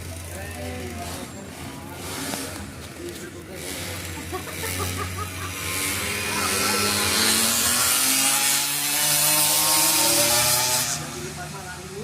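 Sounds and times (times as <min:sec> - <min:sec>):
racing motorcycle engine buzzing: 0:00.0 - 0:12.0.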